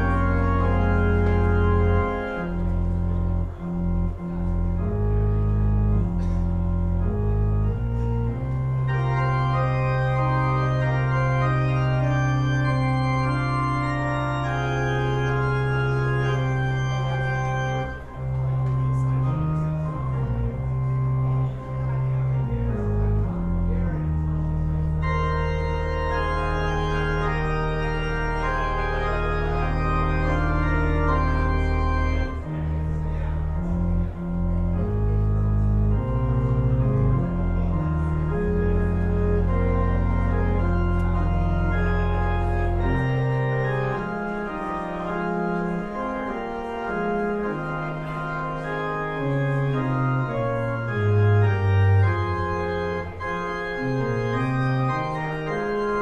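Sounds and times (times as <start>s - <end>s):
church organ playing chords: 0.0s - 56.0s.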